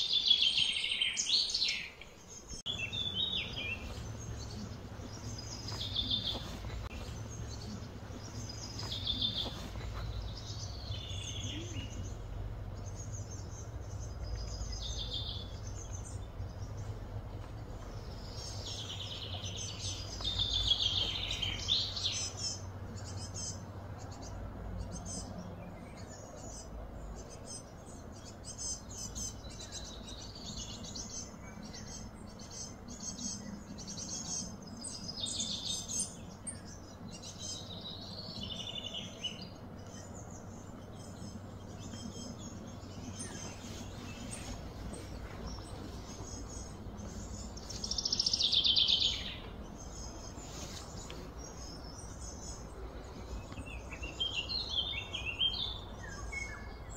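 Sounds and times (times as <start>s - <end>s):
birds chirping: 0.0s - 56.9s
steady low hum: 2.0s - 56.9s.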